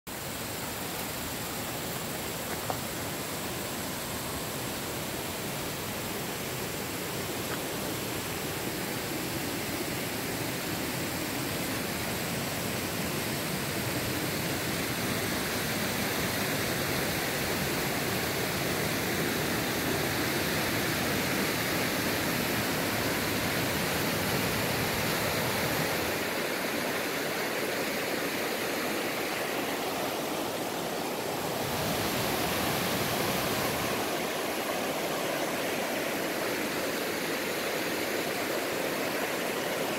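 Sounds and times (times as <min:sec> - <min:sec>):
river rushing over stones: 0:00.1 - 0:39.9.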